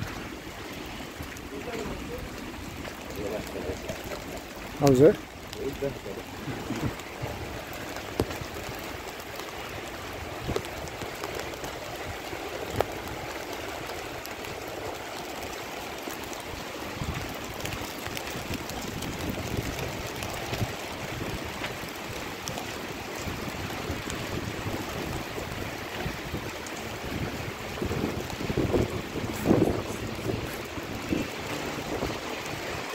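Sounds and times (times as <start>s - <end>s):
heavy rain on street: 0.0s - 32.9s
wind buffeting microphone: 0.0s - 32.9s.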